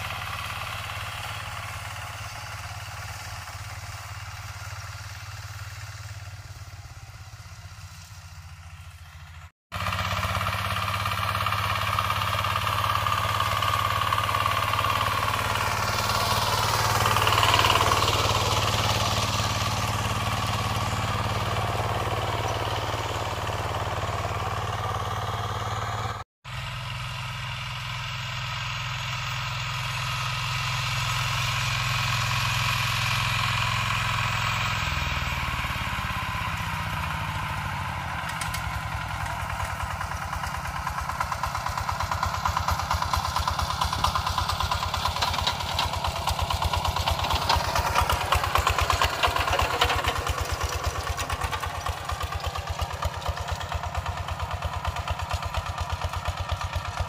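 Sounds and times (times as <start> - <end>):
tractor engine chugging: 0.0 - 57.0.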